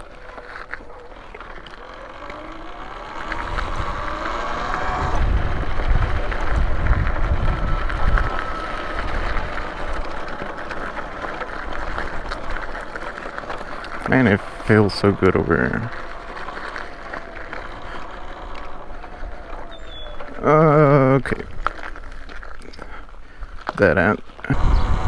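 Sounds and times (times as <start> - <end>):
electric motor whining: 0.0 - 25.0
wind rumbling on microphone: 1.0 - 22.5, 24.4 - 25.0.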